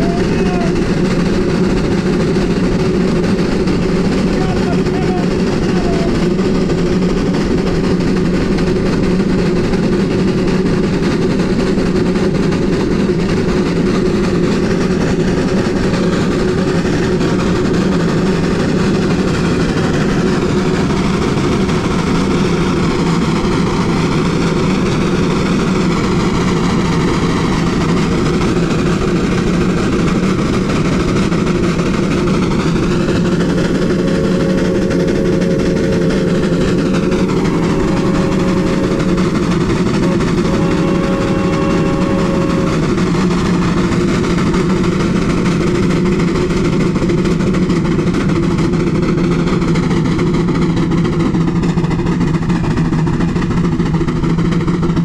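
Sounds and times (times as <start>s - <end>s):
steam locomotive running: 0.0s - 55.0s.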